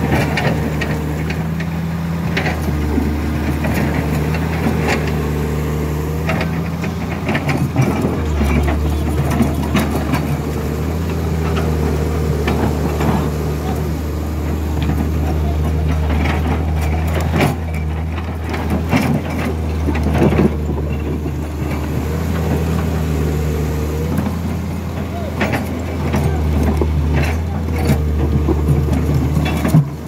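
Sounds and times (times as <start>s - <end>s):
knocks and clatter: 0.0s - 30.0s
truck engine droning: 0.0s - 30.0s.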